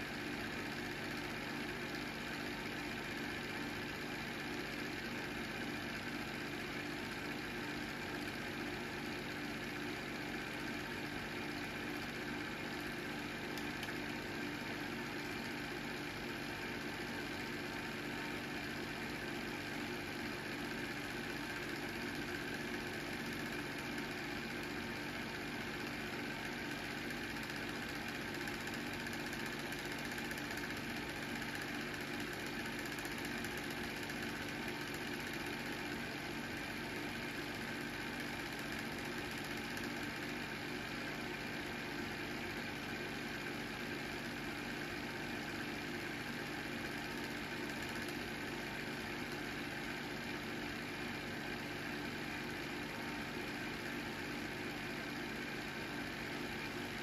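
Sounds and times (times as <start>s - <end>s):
film projector motor humming: 0.0s - 57.0s.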